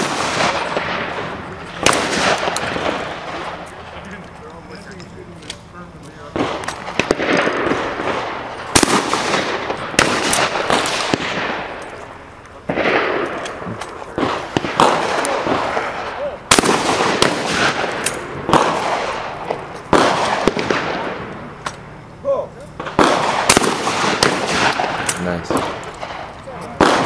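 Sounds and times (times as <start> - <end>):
shotgun shots echoing: 0.0 - 4.3, 5.4 - 22.0, 22.7 - 27.0.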